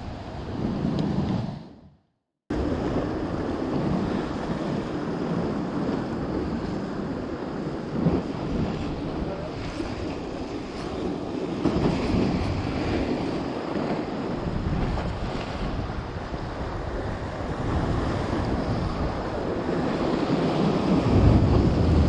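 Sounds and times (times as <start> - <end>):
wind buffeting microphone: 0.0 - 22.0
sea waves washing on shore: 2.5 - 22.0.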